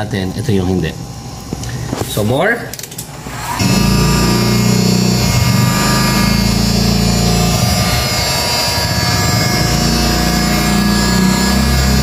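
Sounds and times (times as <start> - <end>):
heat gun fan hum: 1.0 - 12.0.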